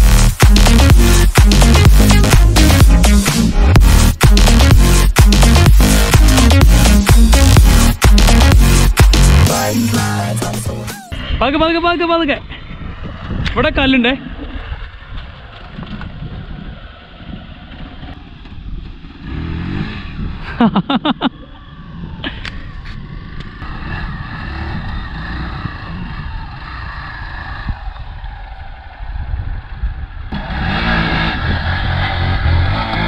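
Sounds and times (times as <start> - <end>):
motorcycle engine running: 0.0 - 9.7, 14.2 - 33.0.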